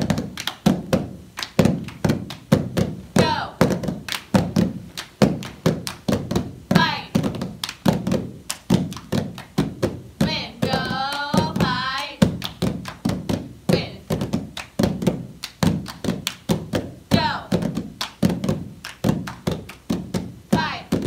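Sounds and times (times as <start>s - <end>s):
people clapping: 0.0s - 21.0s.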